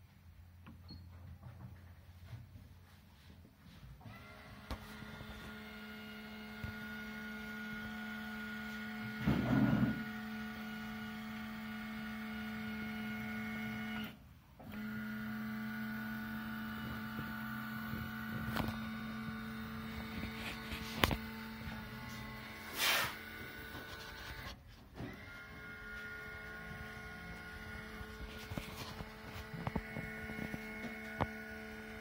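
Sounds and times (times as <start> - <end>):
lift motor humming: 4.1 - 32.0.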